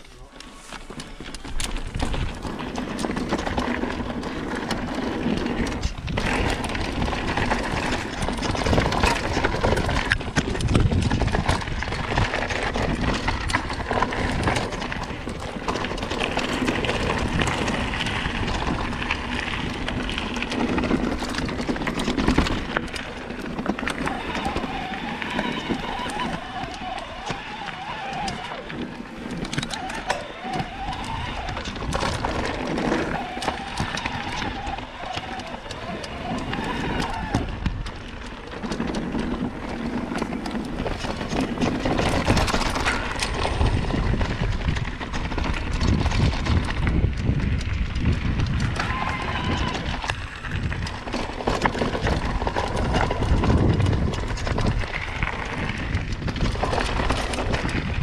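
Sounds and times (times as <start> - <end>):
bike chain and frame rattling: 0.0 - 58.0
bike tyres crunching over stones: 0.0 - 58.0.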